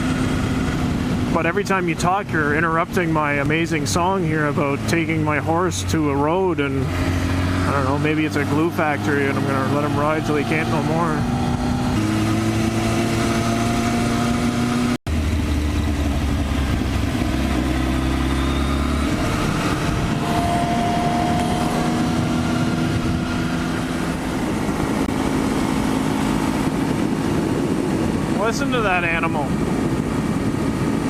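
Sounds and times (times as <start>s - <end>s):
motorcycle engine running: 0.0s - 31.0s
wind noise: 0.0s - 31.0s.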